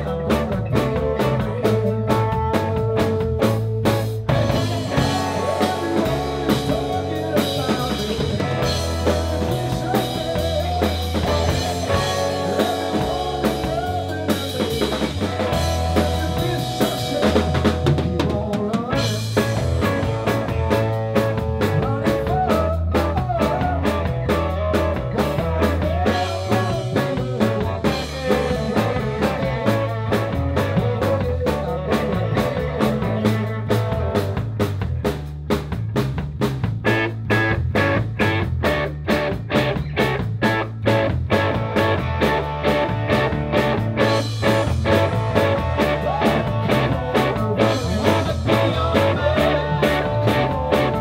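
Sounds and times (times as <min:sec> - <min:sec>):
drum kit beat: 0:00.0 - 0:51.0
electric bass: 0:00.0 - 0:51.0
electric guitar: 0:00.0 - 0:51.0.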